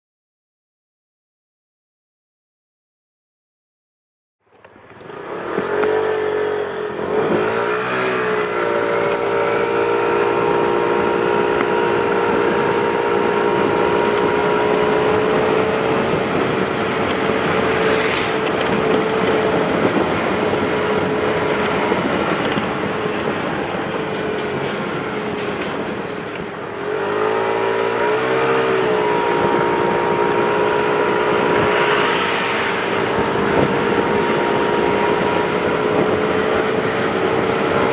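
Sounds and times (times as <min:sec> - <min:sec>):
scooter engine running: 0:04.5 - 0:37.9.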